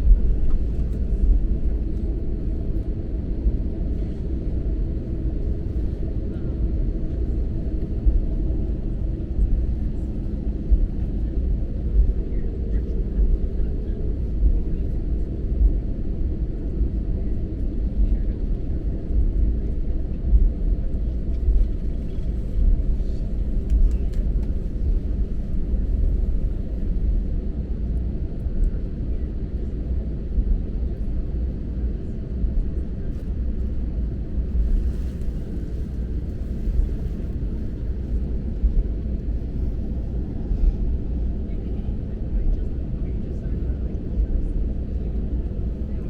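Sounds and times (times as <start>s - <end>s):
aircraft engines rumbling in cabin: 0.0s - 46.0s.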